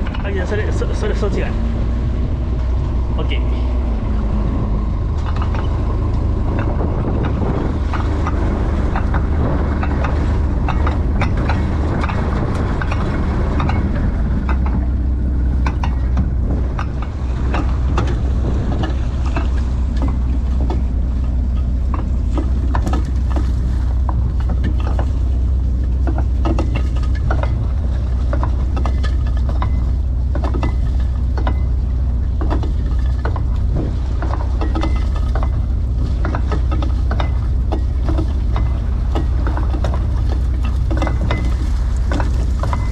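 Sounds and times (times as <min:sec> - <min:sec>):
boat engine low drone: 0:00.0 - 0:42.9.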